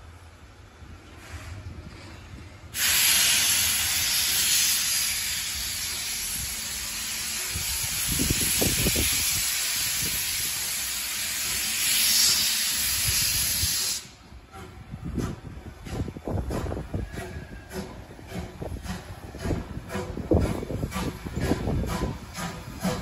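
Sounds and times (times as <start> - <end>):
steam locomotive hissing steam: 2.7 - 23.0.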